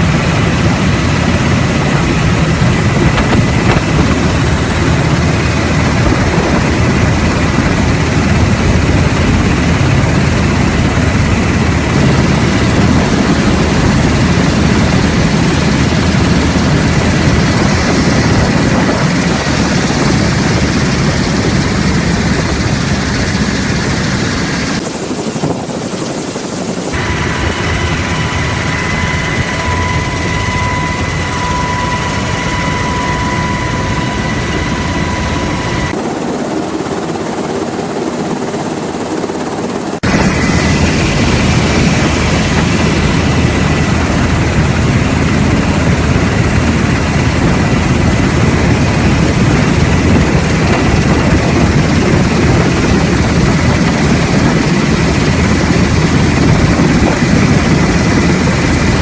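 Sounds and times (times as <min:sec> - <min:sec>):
helicopter rotor and turbine: 0:00.0 - 0:59.0
steady high whine: 0:00.0 - 0:59.0.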